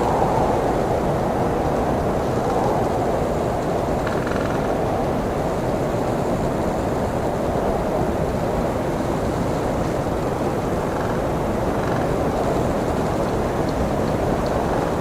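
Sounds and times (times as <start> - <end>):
strong blizzard wind: 0.0 - 15.0.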